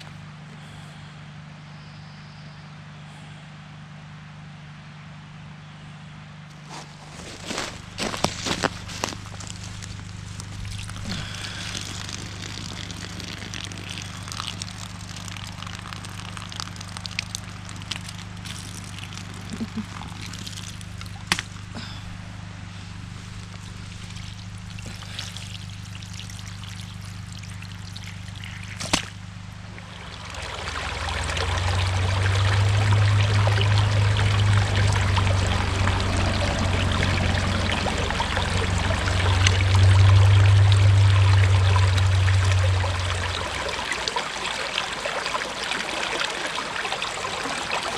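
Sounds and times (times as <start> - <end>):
pump humming: 6.5 - 47.9
water gushing from a hose: 6.6 - 47.9.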